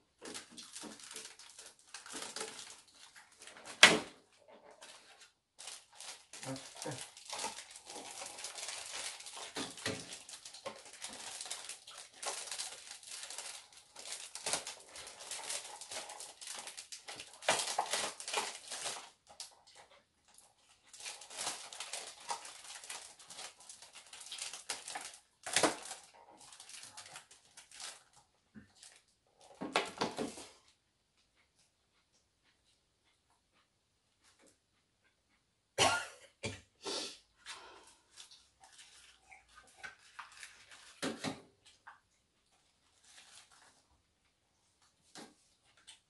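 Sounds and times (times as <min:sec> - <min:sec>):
plastic wrappers crinkling: 0:00.1 - 0:30.6, 0:37.6 - 0:44.0.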